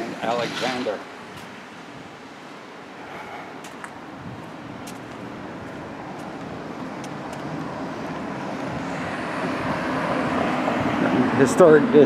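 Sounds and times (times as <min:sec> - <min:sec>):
car approaching: 0:00.0 - 0:12.0.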